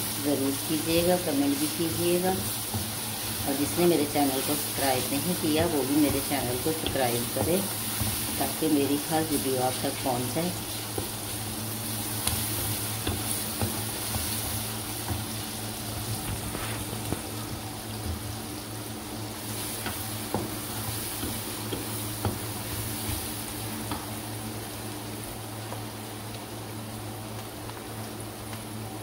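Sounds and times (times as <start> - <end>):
onions sizzling in hot oil: 0.0 - 29.0
steady low hum: 0.0 - 29.0.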